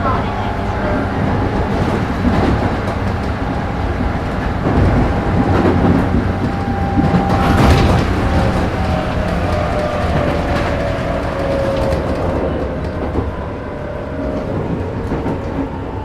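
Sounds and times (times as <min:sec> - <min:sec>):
wheels clacking over rail joints: 0:00.0 - 0:16.0
wheels rumbling on rail: 0:00.0 - 0:16.0.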